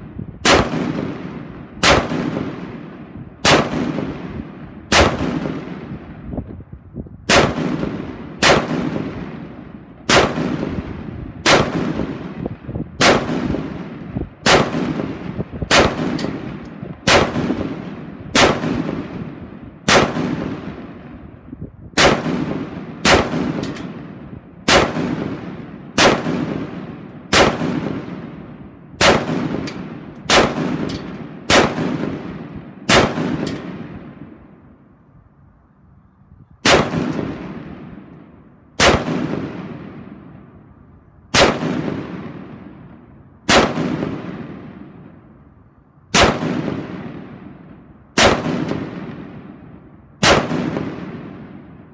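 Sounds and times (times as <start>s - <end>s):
rifle shots echoing: 0.4s - 6.2s, 7.3s - 21.4s, 22.0s - 34.6s, 36.6s - 40.6s, 41.3s - 45.3s, 46.1s - 51.9s.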